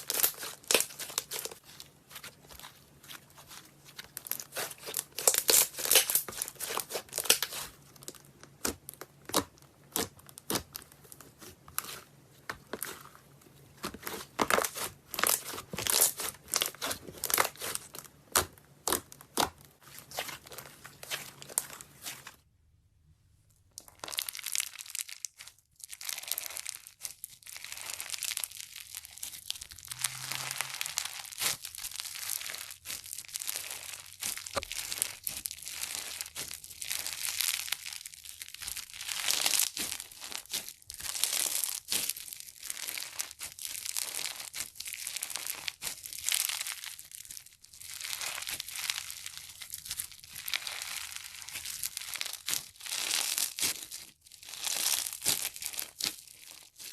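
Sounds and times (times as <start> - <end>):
slime crackling and popping: 0.0 - 22.4, 23.7 - 56.9.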